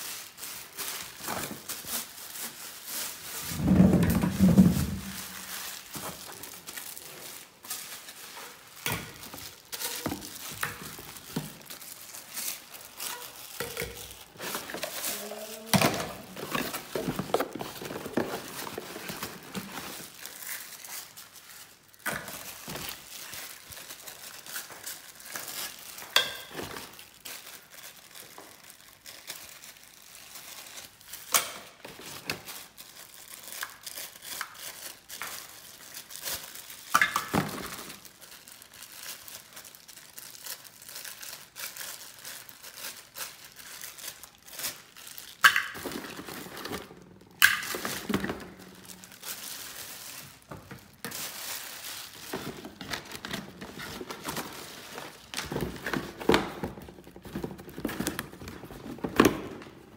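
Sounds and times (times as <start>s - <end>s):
plastic wrapping crinkling: 0.0s - 59.9s.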